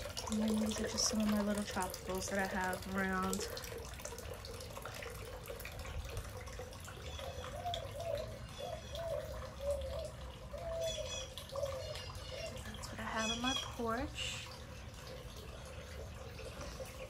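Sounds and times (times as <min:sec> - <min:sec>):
fountain water trickling: 0:00.0 - 0:17.0.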